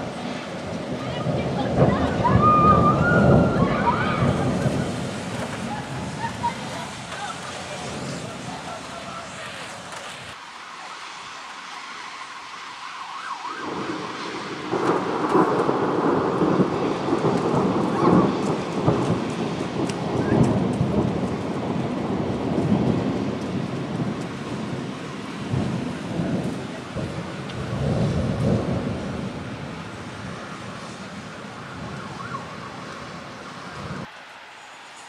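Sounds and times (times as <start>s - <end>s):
rolling thunder: 0.0s - 10.4s, 13.1s - 34.1s
rain hiss: 0.0s - 35.0s.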